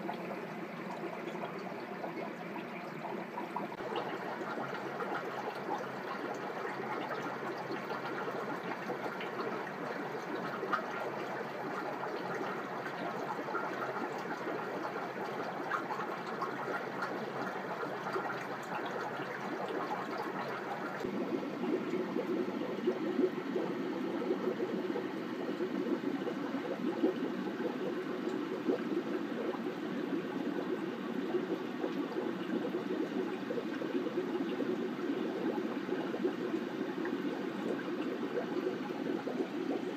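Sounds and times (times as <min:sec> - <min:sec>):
aquarium filter bubbling: 0:00.0 - 0:39.9
water trickling: 0:00.0 - 0:39.9.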